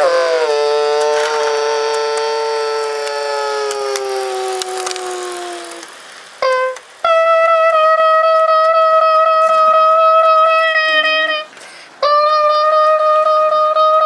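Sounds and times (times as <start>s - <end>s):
model train horn blast: 0.0s - 14.0s.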